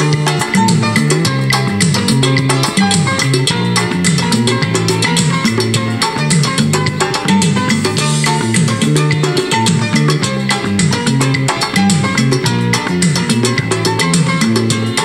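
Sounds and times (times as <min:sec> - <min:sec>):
instrumental music with drums: 0:00.0 - 0:15.0.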